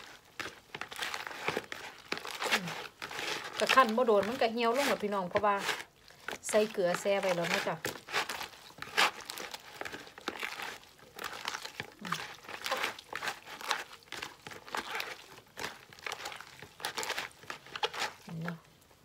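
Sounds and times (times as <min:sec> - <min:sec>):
cabbage squeezed by hand: 0:00.0 - 0:18.5.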